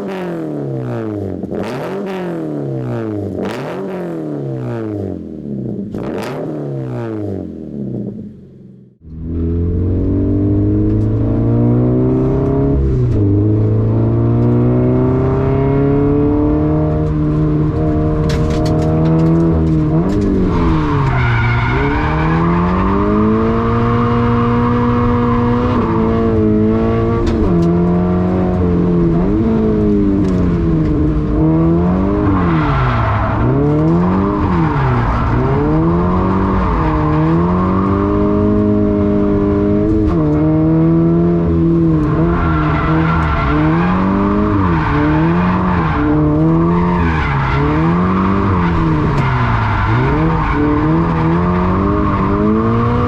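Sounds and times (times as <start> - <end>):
car engine revving exhaust: 0.0 - 53.0.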